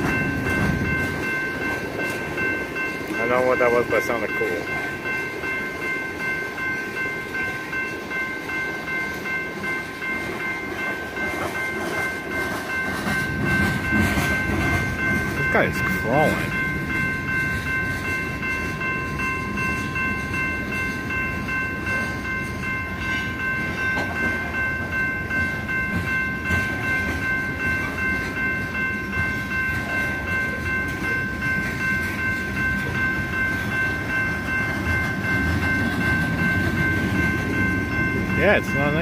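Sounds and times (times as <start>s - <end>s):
crossing warning bell ringing: 0.0s - 39.0s
train wheels rumbling on rail: 0.0s - 39.0s.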